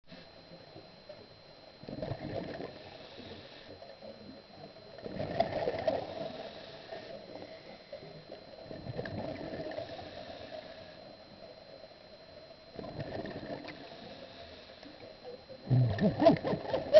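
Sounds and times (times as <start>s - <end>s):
underwater breath bubbles gurgling: 1.8s - 11.6s, 12.7s - 16.9s.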